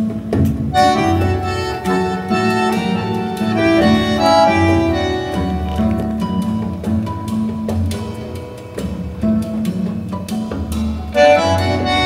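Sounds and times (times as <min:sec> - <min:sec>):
acoustic music over loudspeakers: 0:00.0 - 0:12.0.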